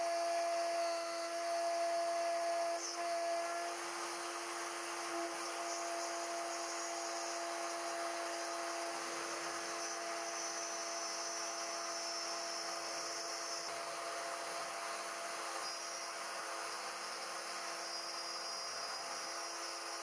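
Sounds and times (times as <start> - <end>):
router spindle whine: 0.0 - 20.0.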